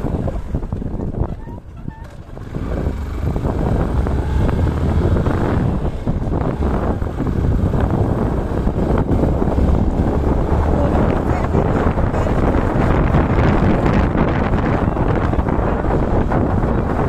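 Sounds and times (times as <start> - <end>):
motorcycle engine rumbling: 0.0 - 17.0
wind rush on microphone: 0.0 - 17.0.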